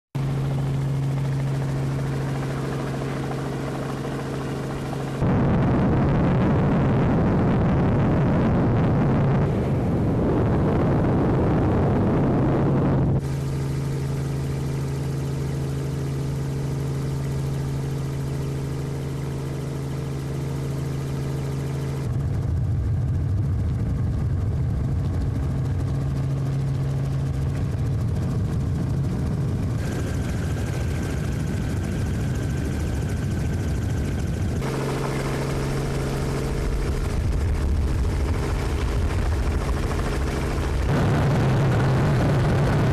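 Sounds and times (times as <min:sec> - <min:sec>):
aircraft engine drone: 0:00.2 - 0:42.9.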